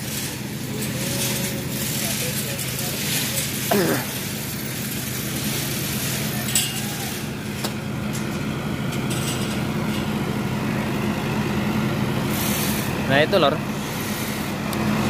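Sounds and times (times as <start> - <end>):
diesel generator droning: 0.0 - 15.0.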